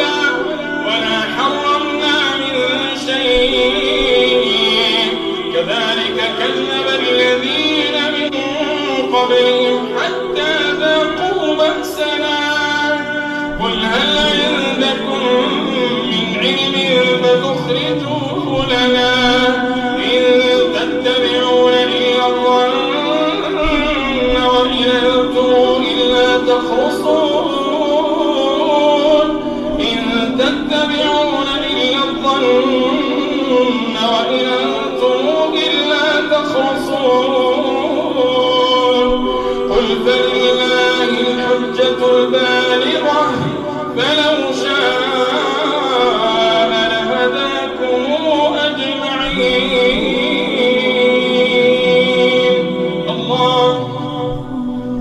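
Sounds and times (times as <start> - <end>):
man chanting through a microphone: 0.0 - 55.0.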